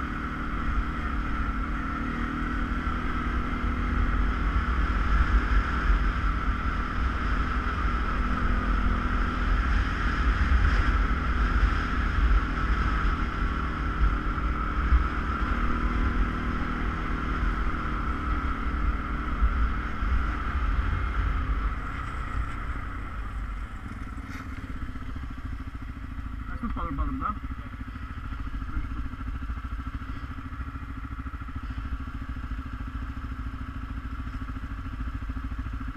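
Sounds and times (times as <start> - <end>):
atv engine rumble and whine: 0.0 - 35.9.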